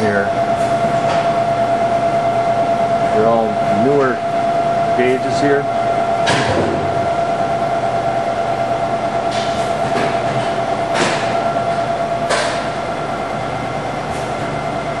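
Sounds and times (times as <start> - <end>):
vacuum pump humming with whine: 0.0 - 15.0.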